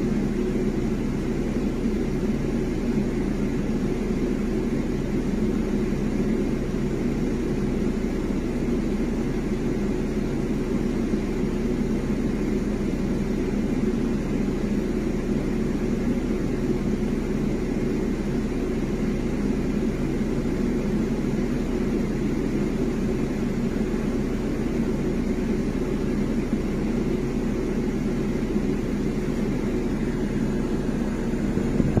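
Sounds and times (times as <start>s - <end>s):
air conditioning hum: 0.0s - 32.0s.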